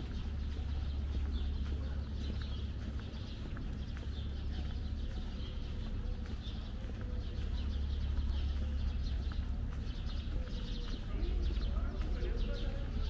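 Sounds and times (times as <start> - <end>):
footsteps on pavement: 0.0 - 13.0
small birds chirping: 0.0 - 13.0
steady low rumble: 0.0 - 13.0.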